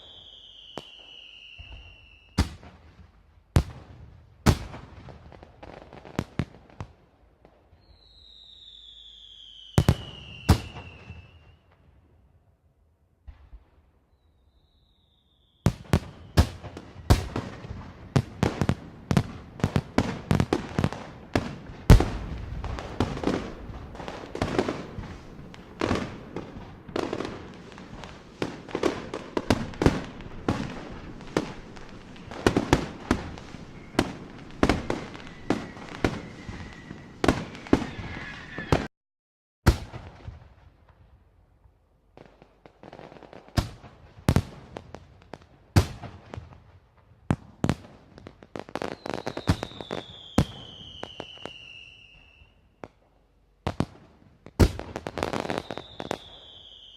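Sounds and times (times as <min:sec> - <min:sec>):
fireworks and firecrackers banging: 0:00.0 - 0:12.2, 0:13.2 - 0:38.9, 0:39.7 - 0:56.9.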